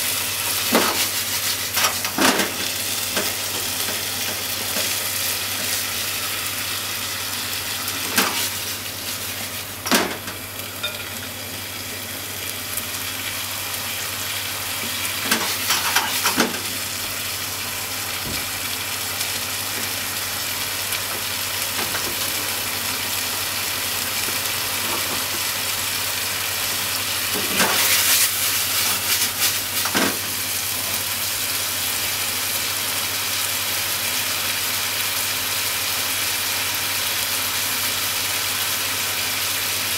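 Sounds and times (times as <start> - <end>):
meat sizzling in a frying pan: 0.0 - 39.9.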